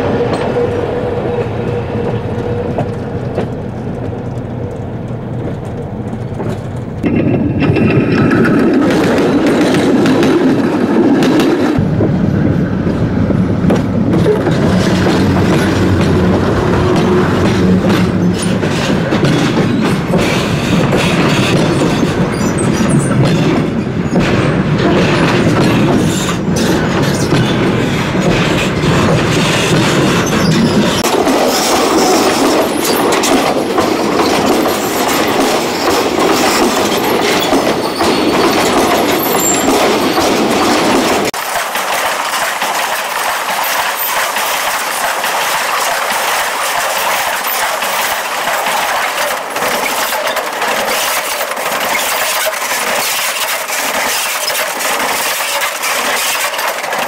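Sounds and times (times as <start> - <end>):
metallic wheel-on-rail noise: 0.0 - 57.0.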